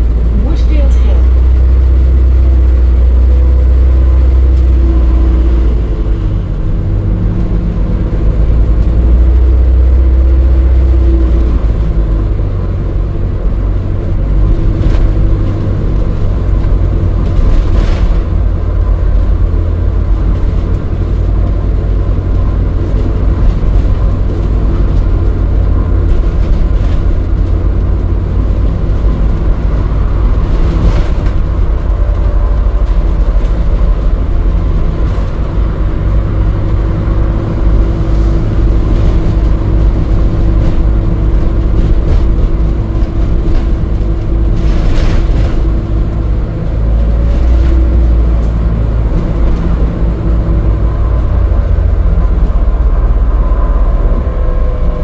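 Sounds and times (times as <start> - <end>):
bus drivetrain and road rumble: 0.0 - 55.0.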